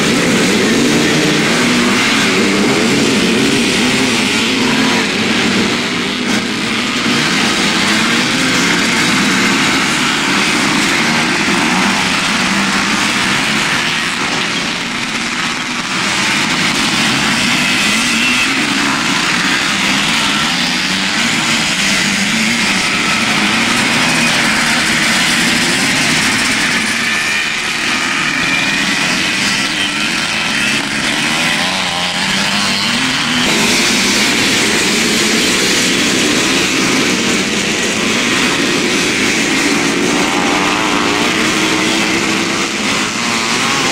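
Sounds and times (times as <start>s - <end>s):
motocross engines revving: 0.0s - 43.9s.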